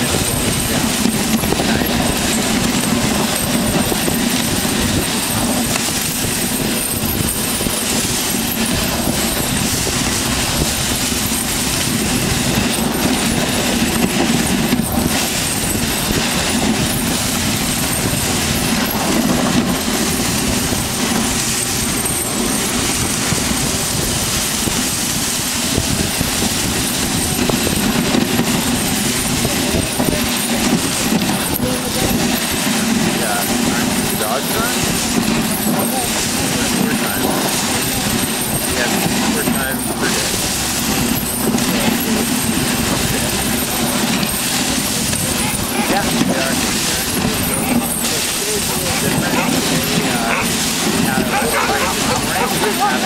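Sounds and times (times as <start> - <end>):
sled runners scraping over ice: 0.0 - 53.0.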